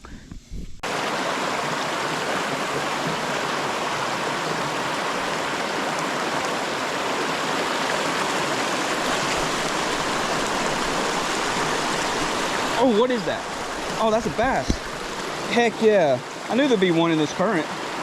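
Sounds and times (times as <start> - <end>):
creek water rushing over rocks: 0.8 - 18.0.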